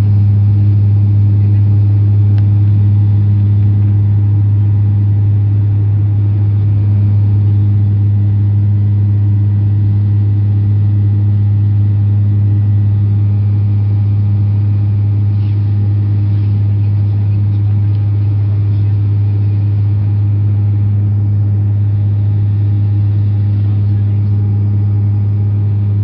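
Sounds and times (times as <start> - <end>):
turboprop engine drone in cabin: 0.0 - 26.0.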